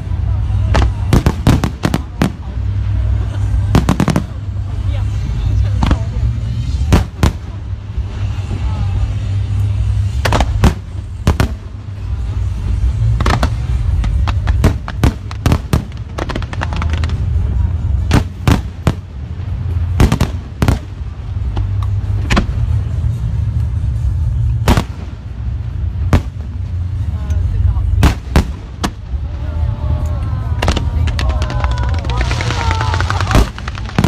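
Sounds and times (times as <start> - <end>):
continuous low rumble: 0.0 - 34.0
fireworks bursting with sharp bangs: 0.0 - 34.0.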